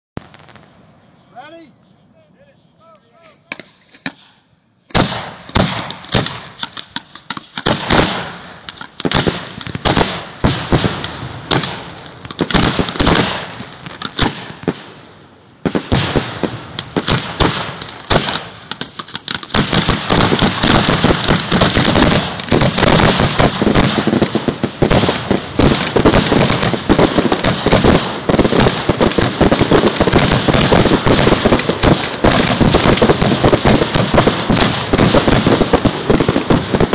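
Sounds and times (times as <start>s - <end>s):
firework shells launching and bursting: 3.5s - 36.9s.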